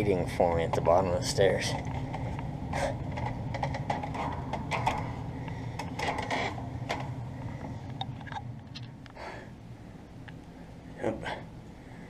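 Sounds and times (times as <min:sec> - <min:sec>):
gas furnace hum: 0:00.0 - 0:12.0.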